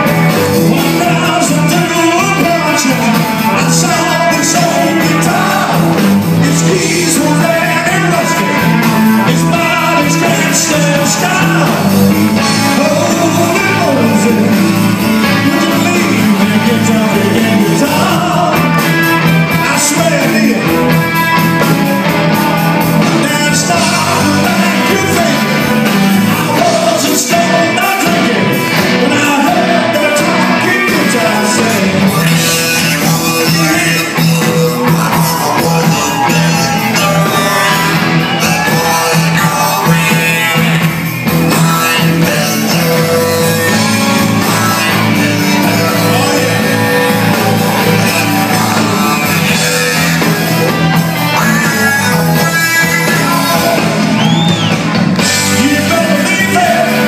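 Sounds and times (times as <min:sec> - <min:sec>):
lead singer: 0:00.0 - 0:57.0
live rock band playing: 0:00.0 - 0:57.0.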